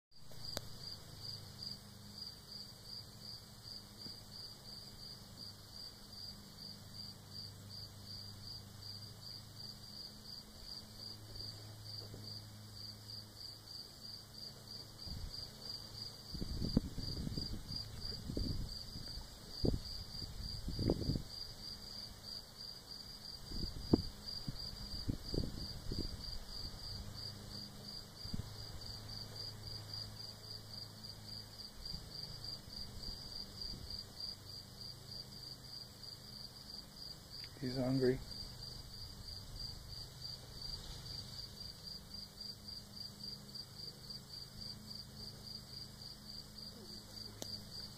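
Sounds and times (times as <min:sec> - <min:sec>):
crickets chirping: 0:00.2 - 0:47.9.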